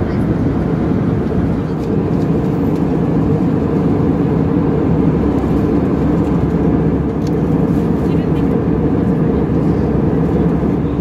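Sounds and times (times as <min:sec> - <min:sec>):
airplane cabin engine and airflow noise: 0:00.0 - 0:11.0.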